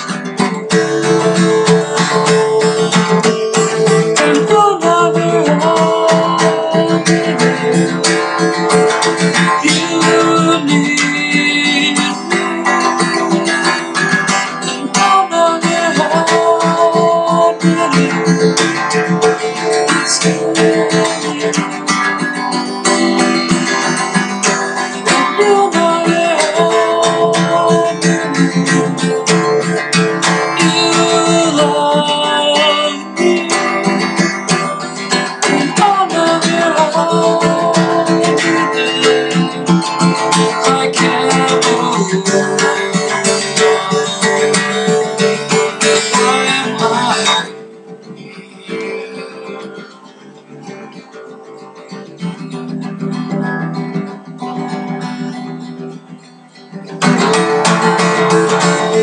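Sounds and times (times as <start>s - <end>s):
acoustic guitar picking: 0.0s - 59.0s.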